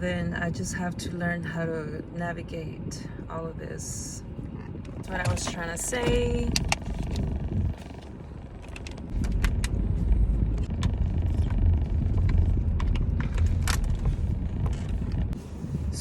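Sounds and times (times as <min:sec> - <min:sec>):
car road rumble: 0:00.0 - 0:16.0.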